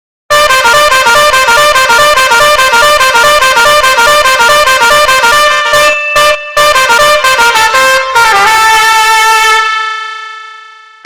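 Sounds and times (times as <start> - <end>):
brassy horn melody: 0.3 - 11.0.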